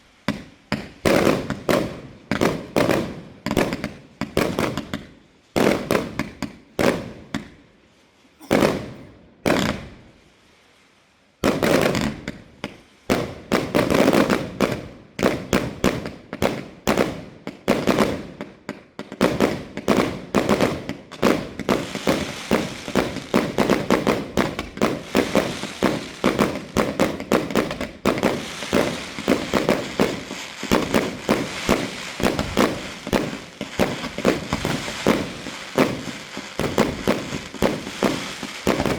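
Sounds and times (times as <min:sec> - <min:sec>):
fireworks bangs and crackling: 0:00.0 - 0:07.6, 0:08.4 - 0:10.2, 0:11.4 - 0:38.9.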